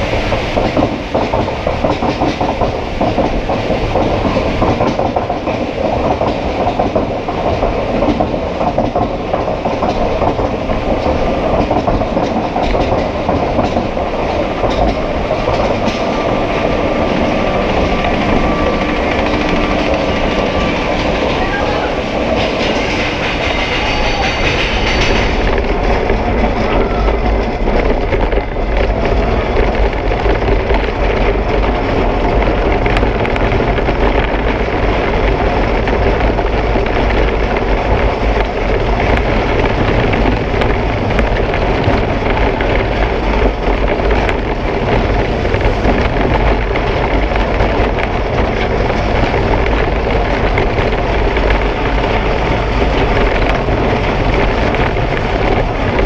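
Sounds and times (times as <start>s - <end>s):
roller coaster wheels rumbling: 0.0s - 56.0s.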